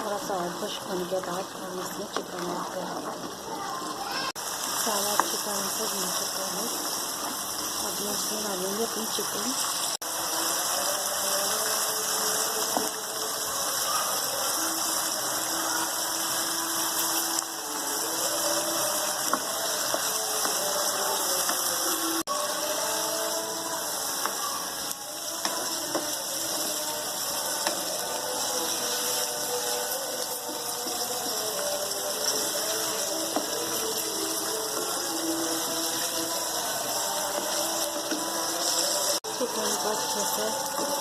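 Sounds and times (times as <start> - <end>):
chicken sizzling in a pan: 3.3 - 41.0.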